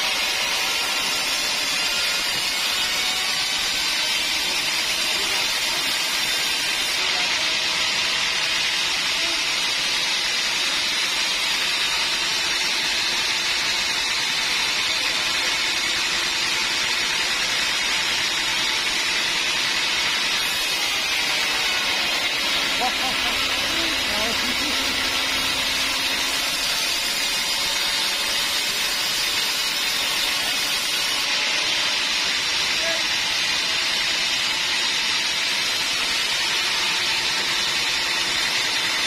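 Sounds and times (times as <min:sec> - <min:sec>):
sawmill saw running: 0:00.0 - 0:39.0.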